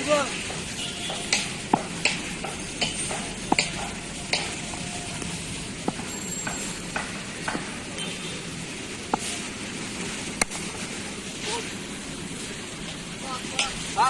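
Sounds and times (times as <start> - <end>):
crackly hiss: 0.0 - 14.0.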